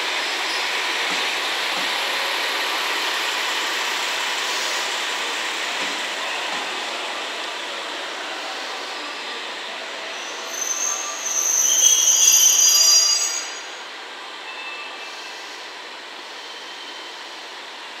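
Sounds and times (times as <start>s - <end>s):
train running noise: 0.0s - 18.0s
train wheels squealing on rails: 0.0s - 18.0s.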